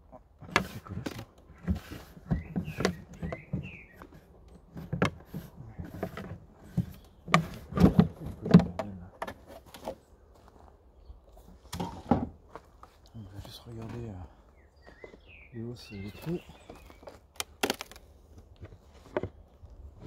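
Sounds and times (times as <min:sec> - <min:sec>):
plastic hive roof creaking and scraping: 0:00.2 - 0:10.0, 0:11.6 - 0:20.0.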